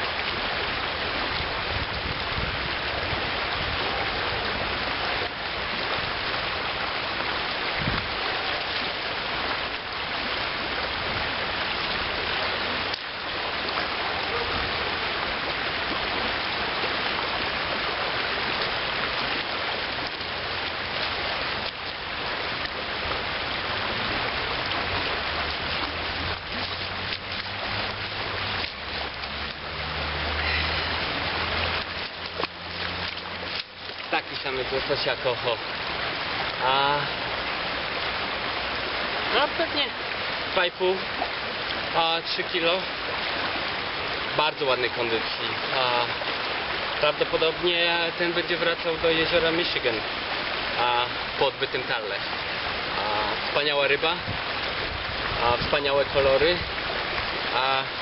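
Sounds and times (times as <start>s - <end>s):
river rushing over gravel: 0.0s - 58.0s.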